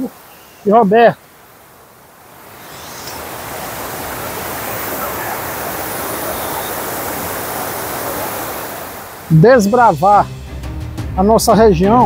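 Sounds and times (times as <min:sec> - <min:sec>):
creek rushing over rocks: 0:00.0 - 0:10.2.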